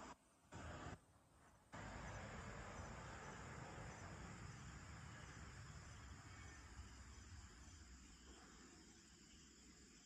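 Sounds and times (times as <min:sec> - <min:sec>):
low hiss: 0:00.0 - 0:10.0
crickets trilling: 0:01.8 - 0:10.0.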